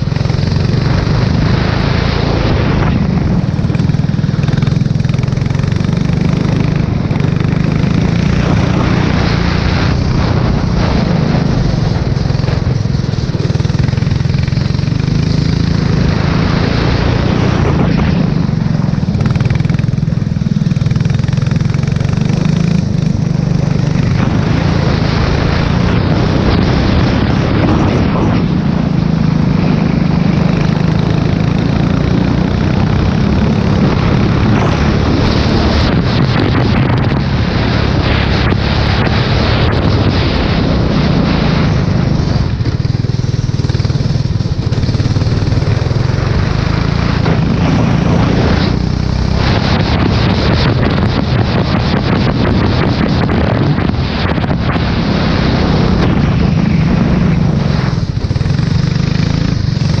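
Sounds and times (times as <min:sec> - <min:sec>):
race car engine running: 0:00.0 - 1:00.0
wind noise on microphone: 0:00.0 - 1:00.0.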